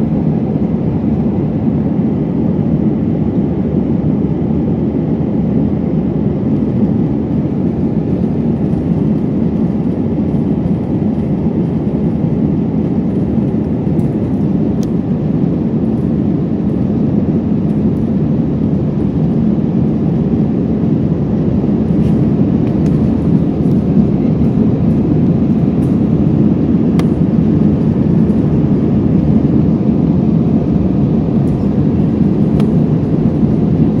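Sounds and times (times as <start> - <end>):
aircraft cabin engine and airflow noise: 0.0 - 34.0.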